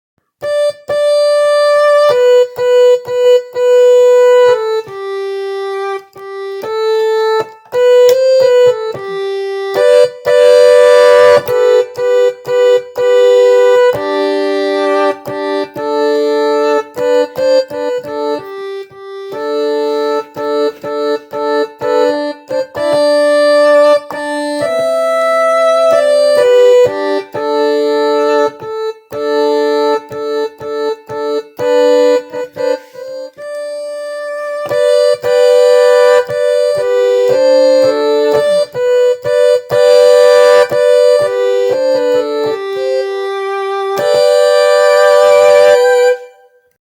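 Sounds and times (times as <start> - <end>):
electronic keyboard melody: 0.2 - 46.8.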